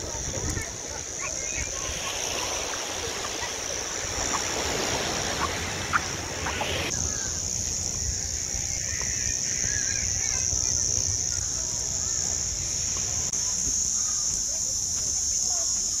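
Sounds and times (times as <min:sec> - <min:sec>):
surf washing onto beach: 0:00.0 - 0:13.7
cicadas buzzing: 0:00.0 - 0:16.0.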